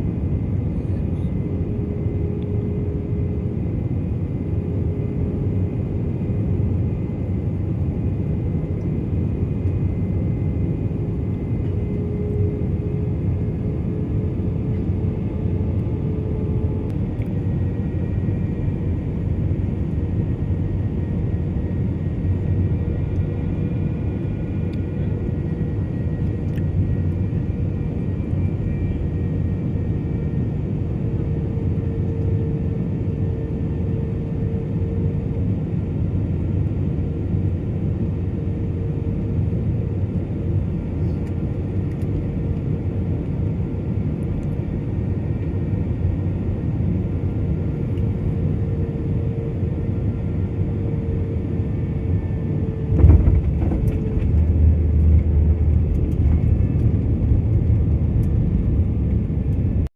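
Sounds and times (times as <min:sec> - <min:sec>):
jet engines rumbling with whine: 0:00.0 - 0:59.9.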